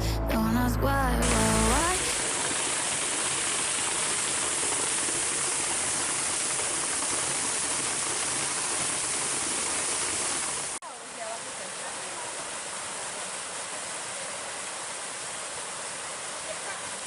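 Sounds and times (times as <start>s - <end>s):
waterfall rushing: 1.2s - 17.0s.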